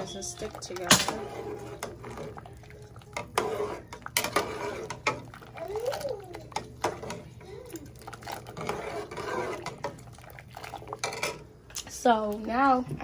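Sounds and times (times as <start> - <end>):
water sloshing: 0.0 - 11.5.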